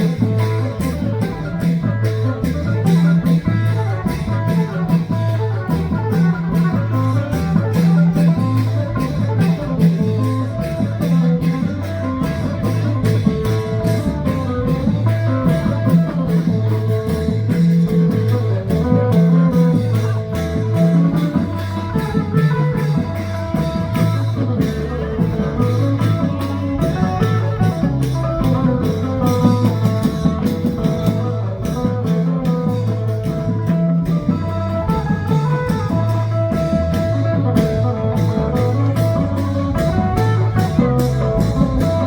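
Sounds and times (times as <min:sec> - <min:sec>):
bass line: 0:00.0 - 0:42.0
drum beat: 0:00.0 - 0:42.0
plucked-string melody: 0:00.0 - 0:42.0.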